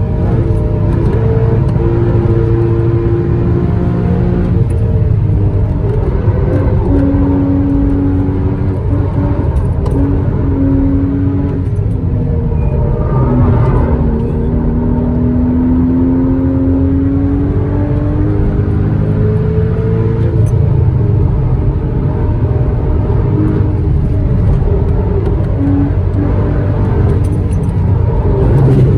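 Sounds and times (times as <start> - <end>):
car engine running hard: 0.0 - 28.9.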